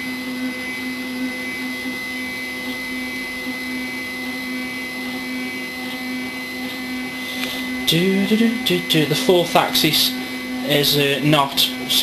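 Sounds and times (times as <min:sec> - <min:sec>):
stepper motor whining: 0:00.0 - 0:12.0.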